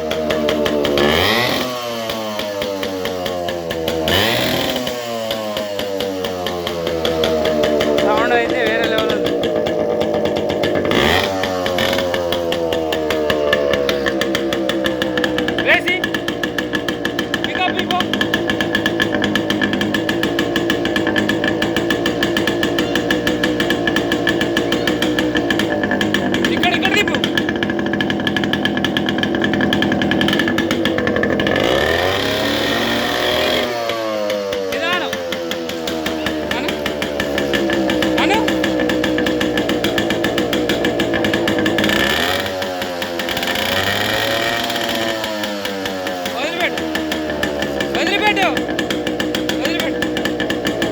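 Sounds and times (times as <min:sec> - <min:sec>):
exhaust pops: 0:00.0 - 0:50.9
two-stroke motorcycle engine running: 0:00.0 - 0:50.9.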